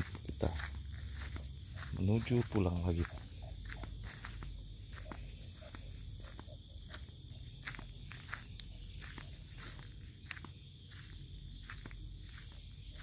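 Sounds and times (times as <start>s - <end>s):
footsteps walking: 0.0s - 13.0s
night insects trilling: 0.0s - 13.0s.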